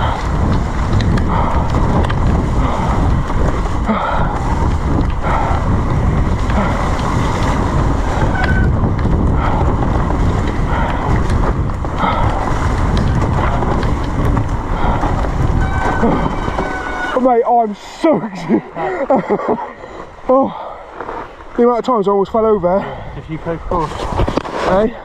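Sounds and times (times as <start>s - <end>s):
wind rushing over microphone: 0.0s - 20.3s, 21.4s - 25.0s.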